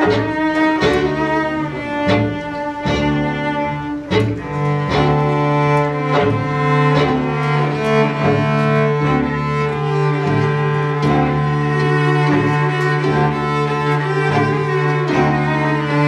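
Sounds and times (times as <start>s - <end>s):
string quartet playing: 0.0s - 16.0s.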